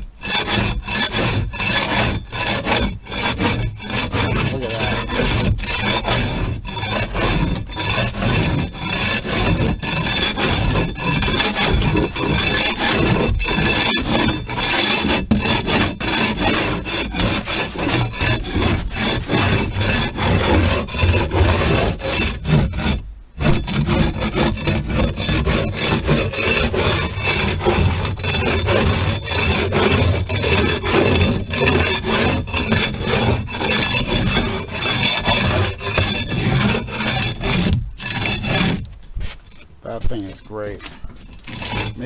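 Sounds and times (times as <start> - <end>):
floor scraper scraping boat floor: 0.0 - 42.0.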